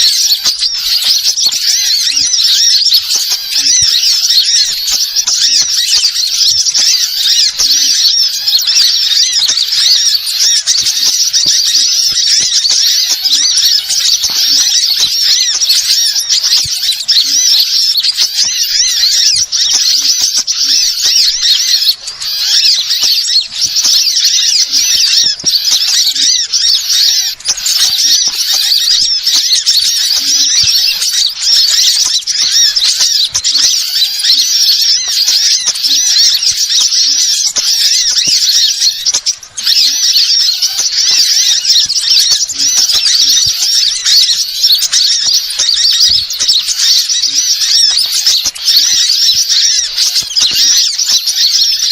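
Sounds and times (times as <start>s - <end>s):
songbirds twittering: 0.0s - 51.9s.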